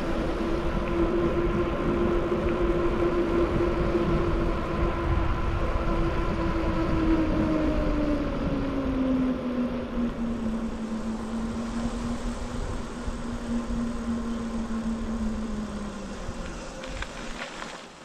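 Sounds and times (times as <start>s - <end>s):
bike tyres humming on asphalt: 0.0s - 18.0s
wind rumble on microphone: 0.0s - 18.0s.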